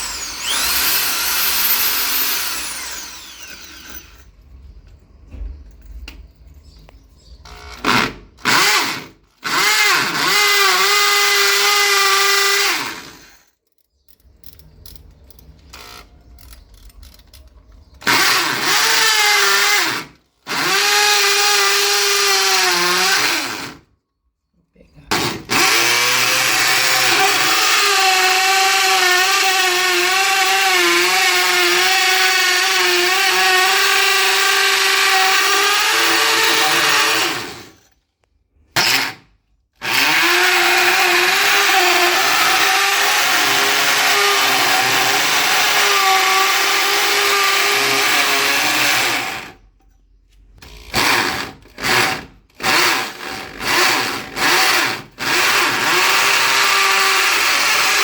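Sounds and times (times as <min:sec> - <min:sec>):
electric drill drilling into concrete: 0:00.0 - 0:04.3, 0:07.5 - 0:13.5, 0:18.0 - 0:23.8, 0:25.1 - 0:37.9, 0:38.8 - 0:49.6, 0:50.6 - 0:58.0.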